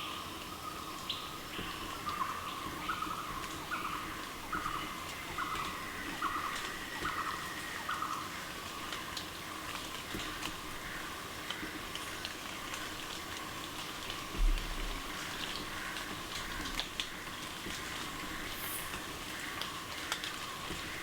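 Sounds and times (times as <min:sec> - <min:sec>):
forest background hiss: 0:00.0 - 0:21.0.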